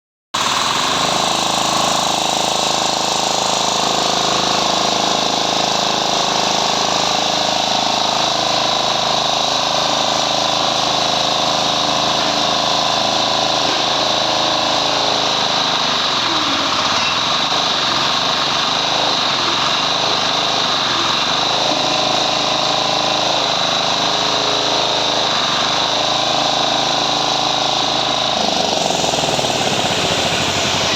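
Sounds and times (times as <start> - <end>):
small diesel engine running: 0.4 - 30.9.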